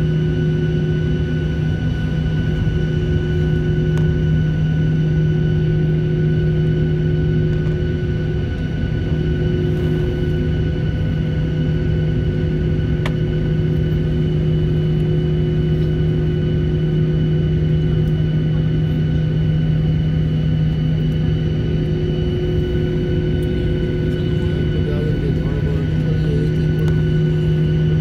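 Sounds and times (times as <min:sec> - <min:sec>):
airliner cabin rumble: 0:00.0 - 0:28.0
multi-toned machinery hum: 0:00.0 - 0:28.0.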